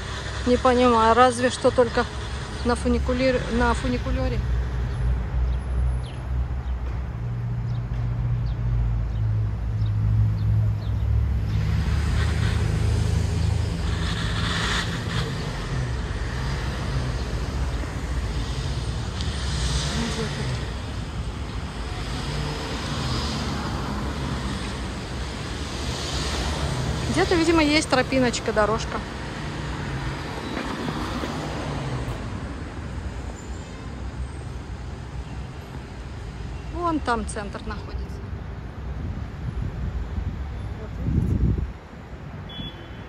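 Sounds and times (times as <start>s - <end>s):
cars passing: 0.0s - 43.0s
low traffic rumble: 0.0s - 43.0s.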